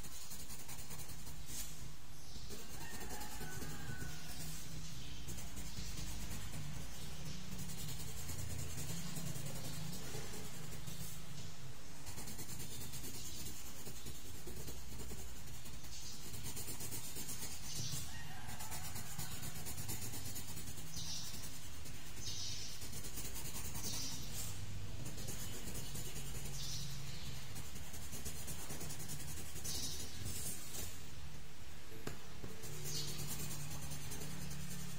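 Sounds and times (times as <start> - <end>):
pencil scratching on paper: 0.0 - 1.8, 2.4 - 11.4, 12.0 - 31.0, 32.0 - 34.9.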